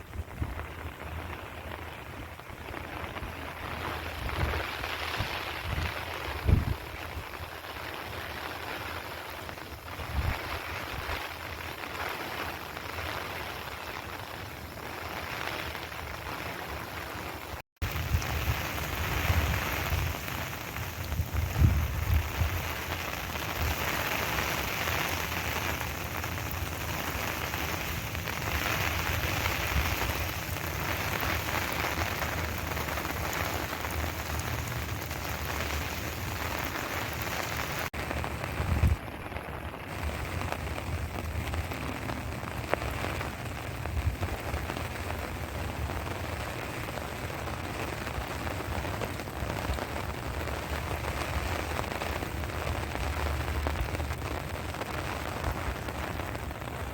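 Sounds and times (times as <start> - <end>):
heavy rain pattering: 0.0 - 56.9.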